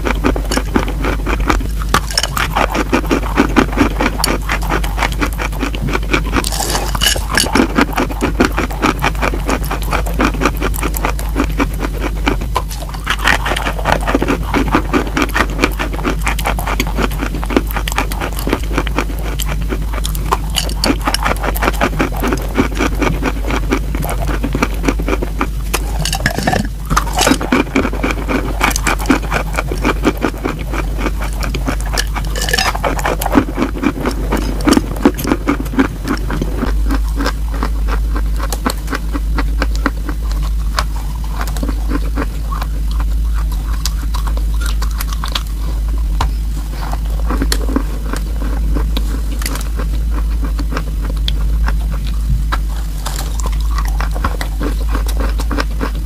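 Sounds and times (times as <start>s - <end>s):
chalk being chewed: 0.0s - 56.0s.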